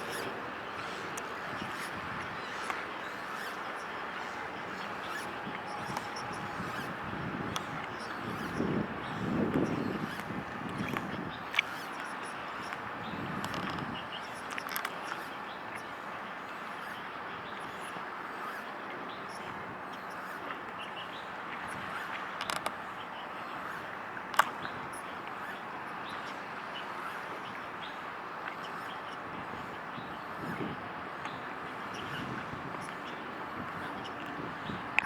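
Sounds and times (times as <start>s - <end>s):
outdoor waterside background noise: 0.0s - 35.0s.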